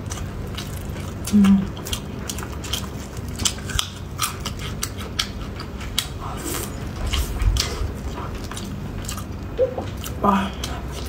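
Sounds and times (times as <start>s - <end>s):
wet chewing clicks and smacks: 0.0s - 11.0s.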